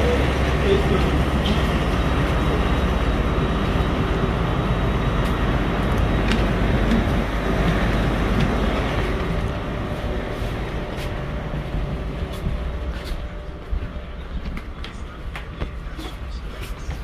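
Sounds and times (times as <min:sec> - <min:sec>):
standing train rumble and hiss: 0:00.0 - 0:17.0.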